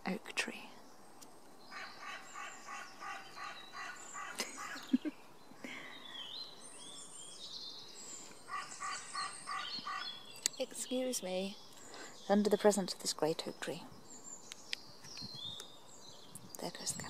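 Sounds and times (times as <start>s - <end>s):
bird warbling song: 0.0s - 17.0s.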